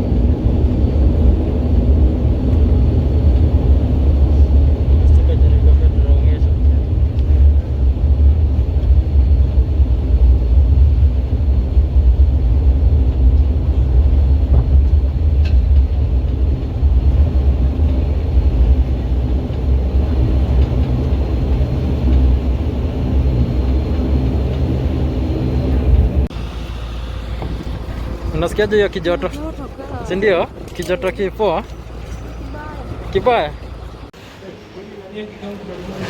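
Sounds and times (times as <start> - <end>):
vehicle rumble from inside cabin: 0.0 - 34.2.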